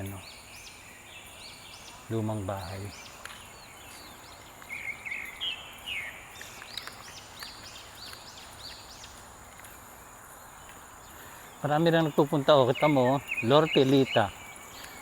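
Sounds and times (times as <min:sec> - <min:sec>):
birds chirping: 0:00.0 - 0:15.0
high insect drone: 0:00.0 - 0:15.0.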